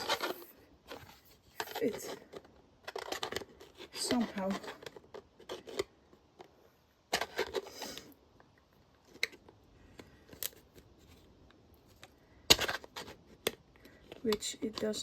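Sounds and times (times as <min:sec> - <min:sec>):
plastic lid clicking and scraping: 0:00.0 - 0:08.2, 0:09.0 - 0:11.3, 0:11.9 - 0:15.0.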